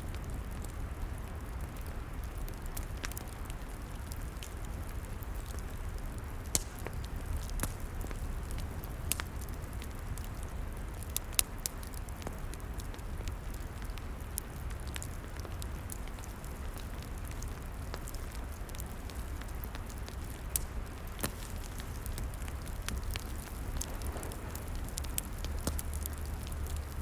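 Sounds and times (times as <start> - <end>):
log fire crackling and popping: 0.0 - 27.0
low fire rumble: 0.0 - 27.0.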